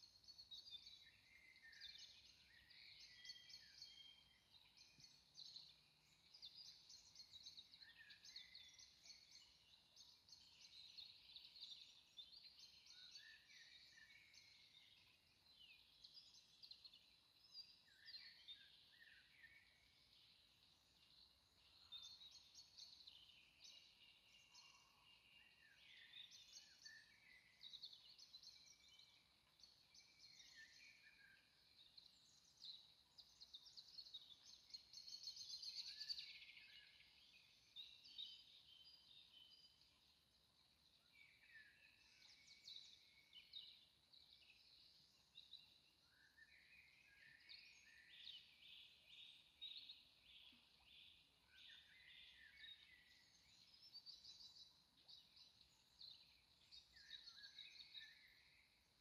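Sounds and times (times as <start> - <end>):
birds chirping and singing: 0.0 - 58.7.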